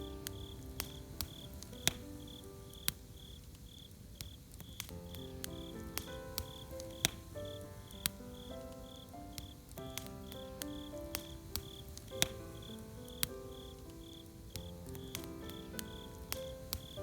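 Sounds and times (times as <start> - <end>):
campfire crackling and popping: 0.0 - 17.0
cricket chirping: 0.0 - 17.0
soft music of held notes: 0.0 - 17.0.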